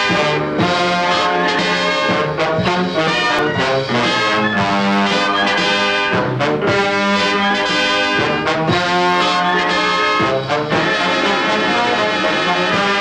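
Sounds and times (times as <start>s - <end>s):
brass section playing: 0.0s - 13.0s
orchestra playing: 0.0s - 13.0s.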